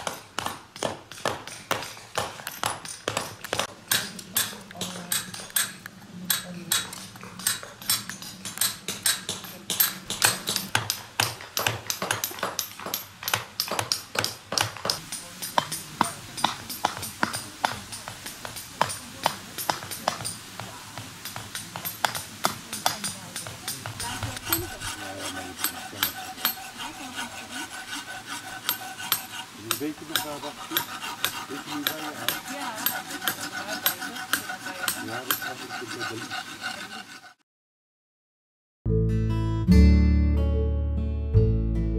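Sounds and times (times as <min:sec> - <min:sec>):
hammer striking chisel into stone: 0:00.0 - 0:37.2.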